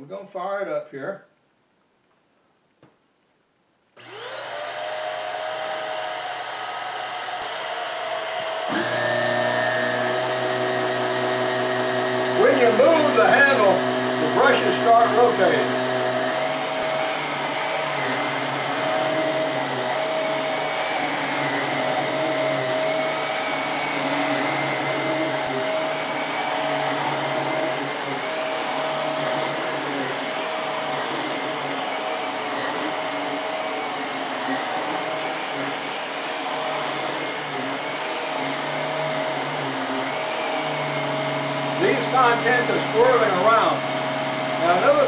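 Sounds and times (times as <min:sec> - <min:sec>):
vacuum cleaner running on carpet: 0:04.0 - 0:45.0.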